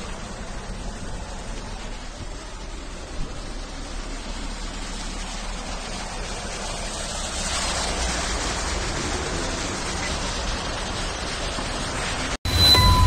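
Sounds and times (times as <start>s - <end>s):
floodwater rushing: 0.0s - 12.6s.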